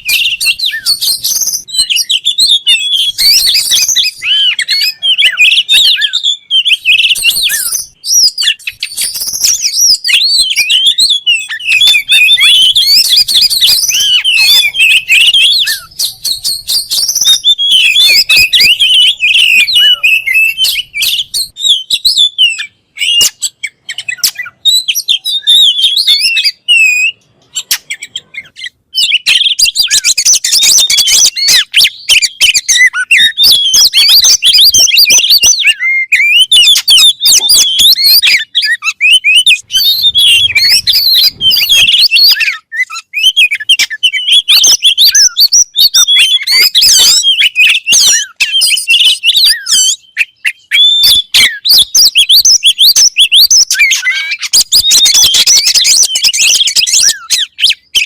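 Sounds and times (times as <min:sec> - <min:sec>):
songbird whistles and trills: 0:00.0 - 0:58.0.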